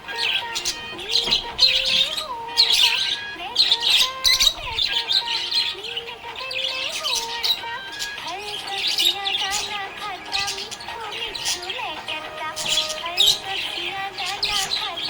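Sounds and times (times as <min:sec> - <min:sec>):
budgerigars chirping and chattering: 0:00.0 - 0:15.0.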